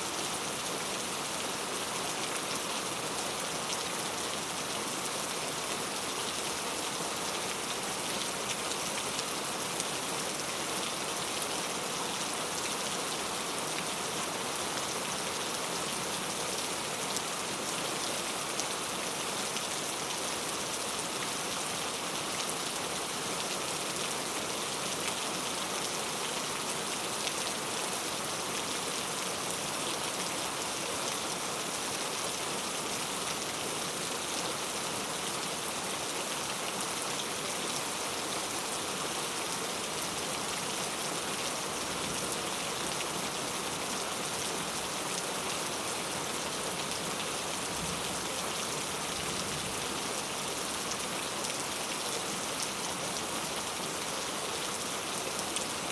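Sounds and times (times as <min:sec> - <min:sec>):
heavy rain on street: 0:00.0 - 0:55.9.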